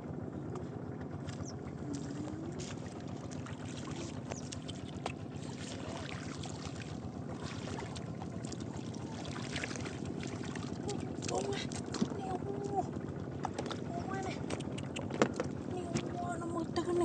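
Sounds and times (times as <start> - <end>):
shallow water sloshing: 0.6 - 17.0.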